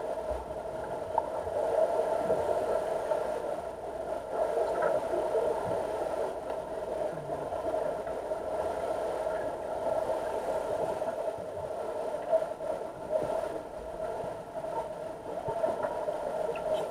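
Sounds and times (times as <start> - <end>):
underwater machinery hum: 0.0 - 16.9.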